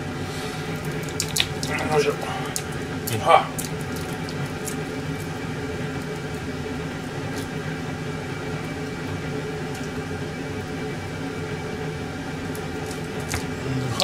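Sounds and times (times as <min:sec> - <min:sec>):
kitchen appliance whirring hum: 0:00.0 - 0:14.0.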